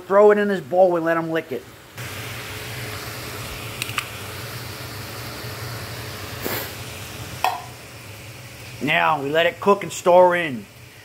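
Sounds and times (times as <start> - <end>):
chicken sizzling in a frying pan: 0.4 - 11.0.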